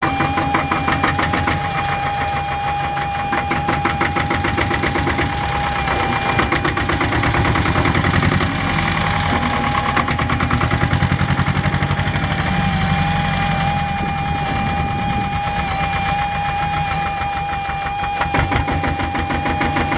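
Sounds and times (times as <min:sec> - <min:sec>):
steady high whistle: 0:00.0 - 0:19.9
tractor diesel engine knocking: 0:00.0 - 0:19.9.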